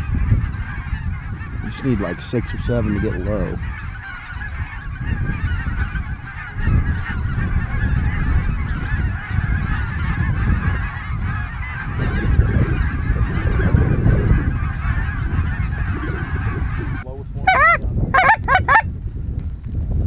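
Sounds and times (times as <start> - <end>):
geese honking: 0.0 - 18.9.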